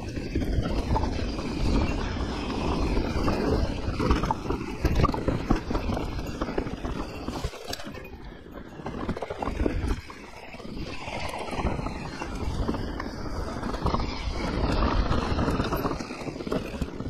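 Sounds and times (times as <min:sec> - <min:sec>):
bike rattling: 0:00.0 - 0:17.0.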